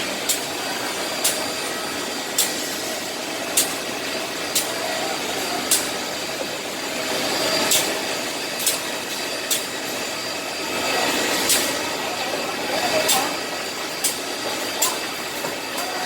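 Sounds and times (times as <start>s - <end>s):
drilling machine running: 0.0s - 16.0s.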